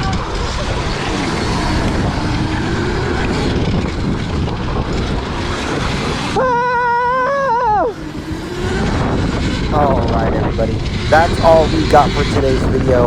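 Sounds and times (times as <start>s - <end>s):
electric motor whine: 0.0s - 6.4s, 7.8s - 13.0s
wind noise on microphone: 0.0s - 13.0s.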